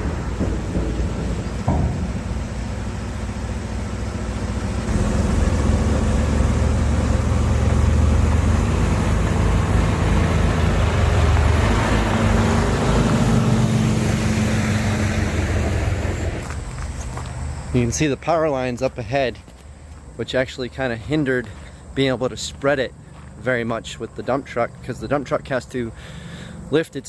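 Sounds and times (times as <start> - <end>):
truck diesel engine under load: 0.0 - 27.0.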